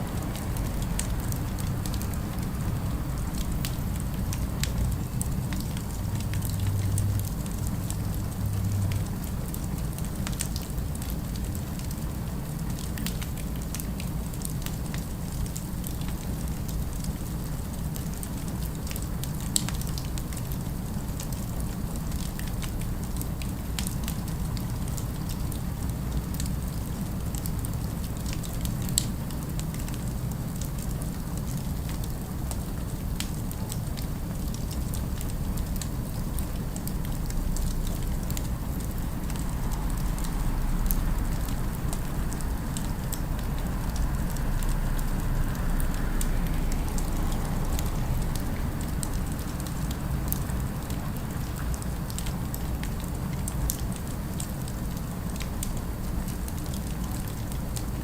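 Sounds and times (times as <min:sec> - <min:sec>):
fire crackling and popping: 0:00.0 - 0:58.0
low city ambience rumble: 0:00.0 - 0:58.0.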